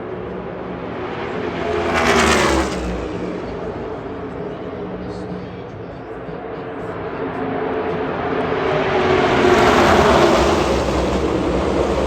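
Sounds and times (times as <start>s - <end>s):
passing vehicle engine: 0.0s - 12.0s.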